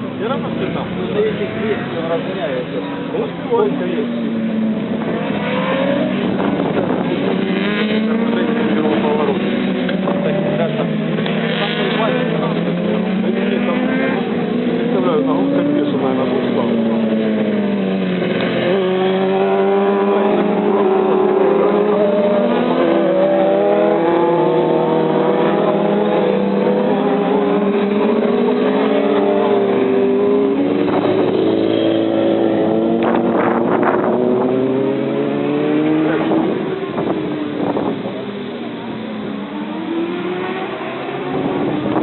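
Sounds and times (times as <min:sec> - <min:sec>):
motorcycle engines racing: 0:00.0 - 0:42.0.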